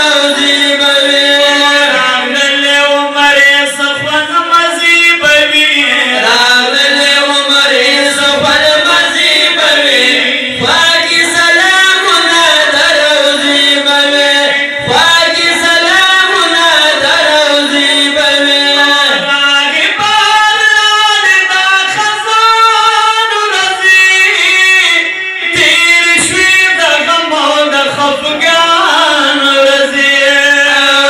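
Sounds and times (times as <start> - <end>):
men chanting devotional song: 0.0 - 31.0.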